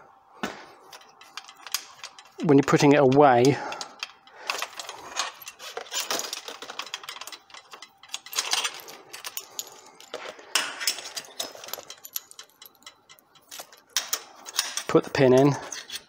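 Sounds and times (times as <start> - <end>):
metal frame clinking and rattling: 0.9 - 16.0.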